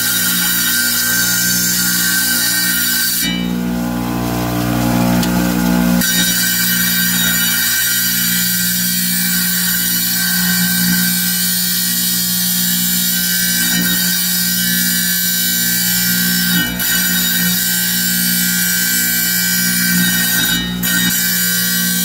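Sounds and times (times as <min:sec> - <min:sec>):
tile saw cutting stone: 0:00.0 - 0:04.5, 0:06.0 - 0:22.0.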